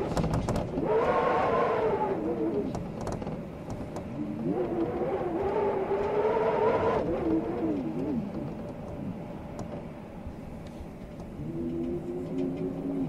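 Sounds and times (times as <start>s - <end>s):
blizzard wind howling: 0.0s - 13.0s.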